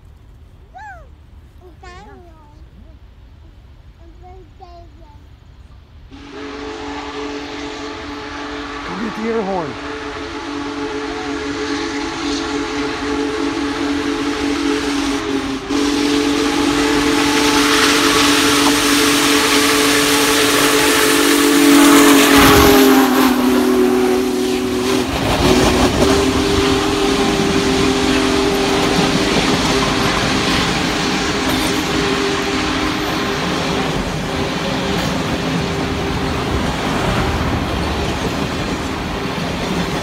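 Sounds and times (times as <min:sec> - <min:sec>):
train rushing past: 0:03.0 - 0:40.0
steam locomotive whistle: 0:06.1 - 0:40.0.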